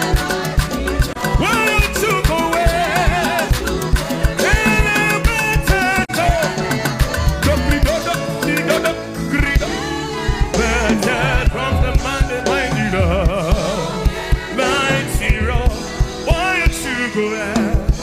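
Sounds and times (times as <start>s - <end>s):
band with busy drum beat: 0.0s - 18.0s
person singing with vibrato: 0.0s - 18.0s.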